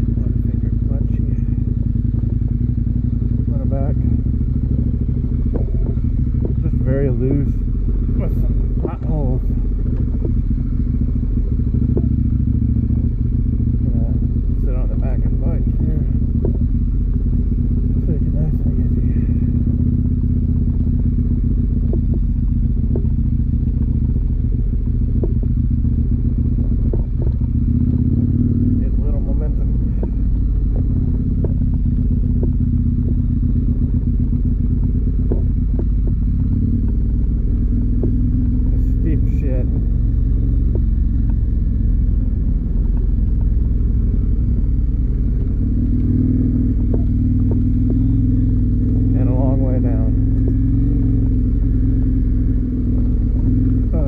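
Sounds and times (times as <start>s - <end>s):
motorcycle engine running: 0.0s - 54.0s
light ticks: 4.1s - 49.2s, 50.0s - 54.0s.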